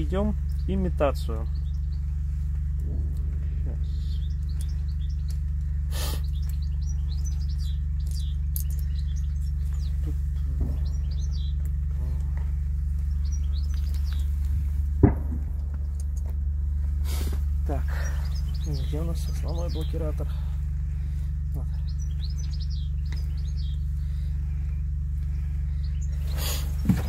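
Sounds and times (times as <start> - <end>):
songbirds chirping and twittering: 0.0 - 27.0
steady low hum: 0.0 - 27.0.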